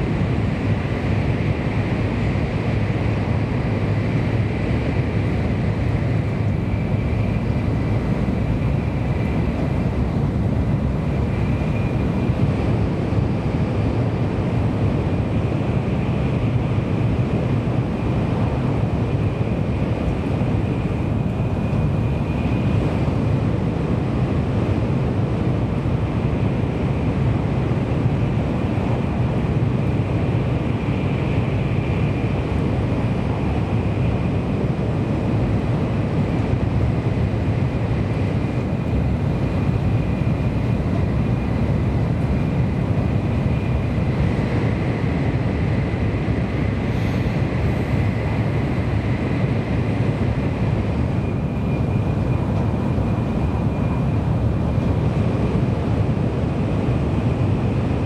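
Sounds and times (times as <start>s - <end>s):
train cabin rumble and hiss: 0.0s - 58.0s.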